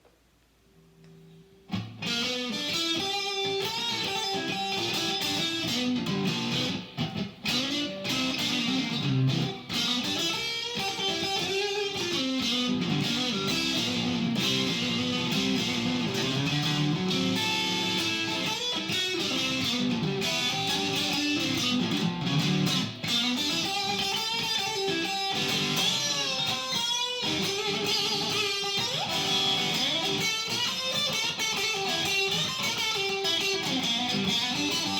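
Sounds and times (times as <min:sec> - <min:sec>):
solo blues guitar: 0:01.7 - 0:34.9.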